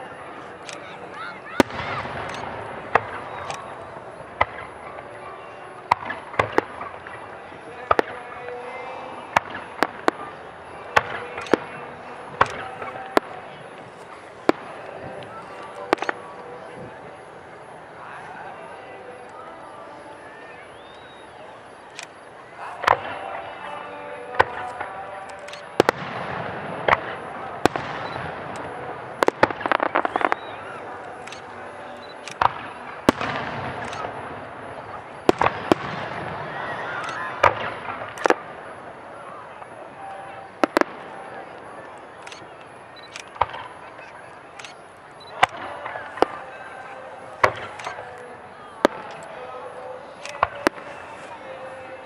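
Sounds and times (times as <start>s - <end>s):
background haze: 0.0s - 52.0s
crowd noise: 0.0s - 52.0s
fireworks bursting: 0.0s - 52.0s.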